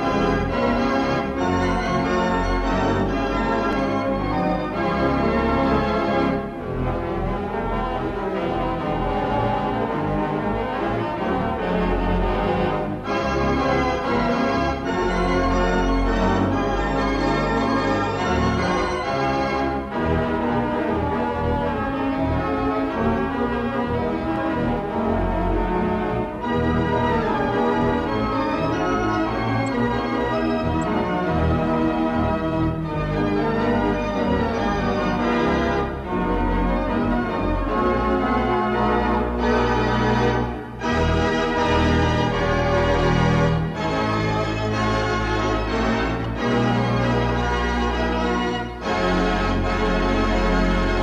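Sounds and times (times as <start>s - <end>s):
pipe organ playing chords: 0.0s - 51.0s.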